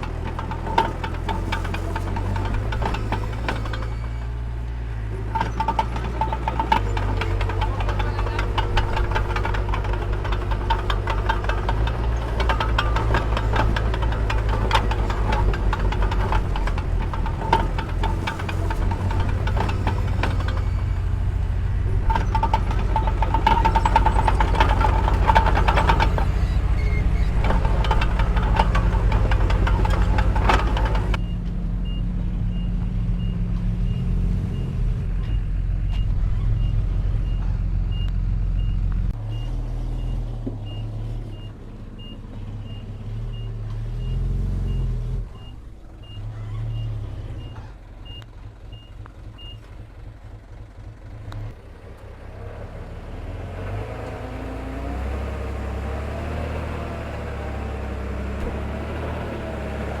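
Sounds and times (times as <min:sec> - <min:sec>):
diesel machinery engine running: 0:00.0 - 1:00.0.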